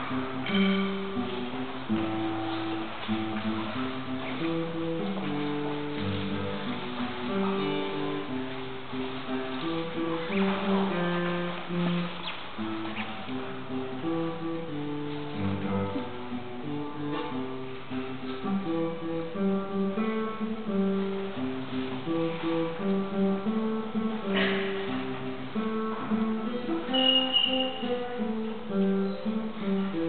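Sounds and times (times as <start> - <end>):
fingerstyle acoustic guitar: 0.0 - 30.0.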